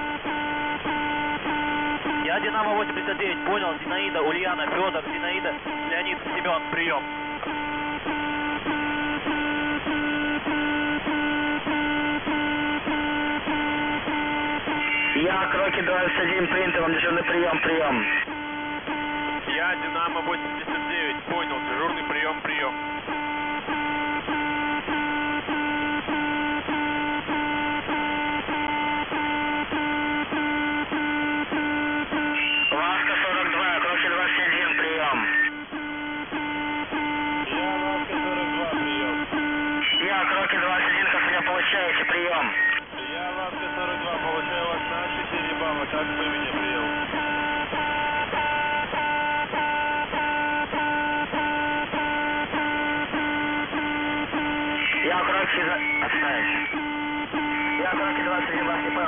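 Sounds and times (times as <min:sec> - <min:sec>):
pulsing buzzing radio tone: 0:00.0 - 0:59.0.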